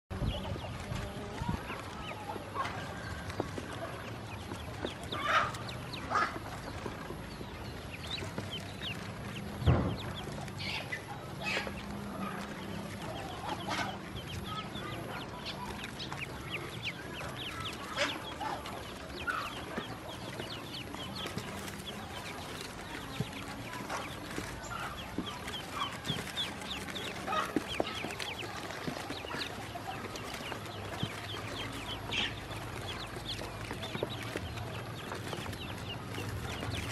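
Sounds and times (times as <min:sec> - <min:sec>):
ducklings peeping: 0:00.1 - 0:36.9.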